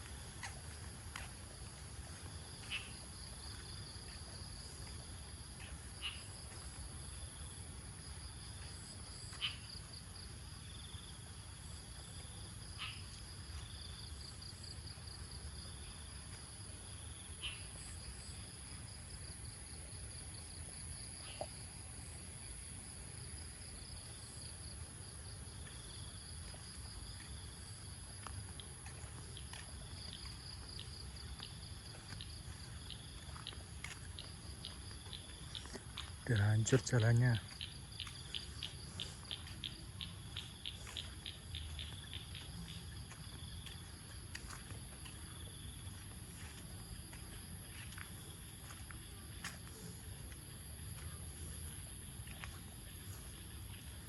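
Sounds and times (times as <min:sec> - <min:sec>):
insects trilling: 0:00.0 - 0:19.8, 0:22.3 - 0:54.0.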